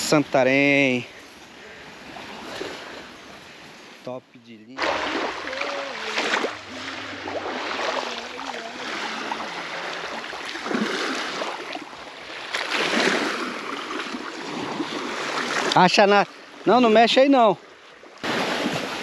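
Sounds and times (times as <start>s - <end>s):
small waves washing onto beach: 0.0s - 4.1s, 4.7s - 19.0s.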